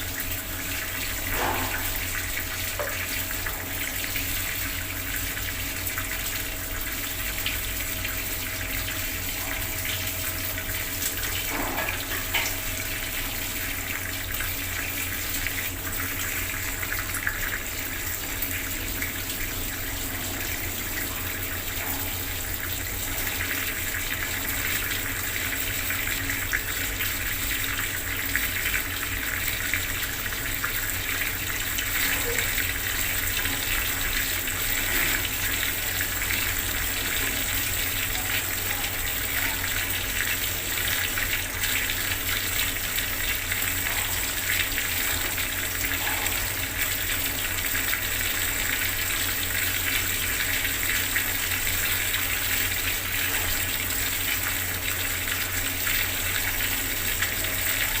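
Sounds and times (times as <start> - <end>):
water tap running: 0.0 - 58.0.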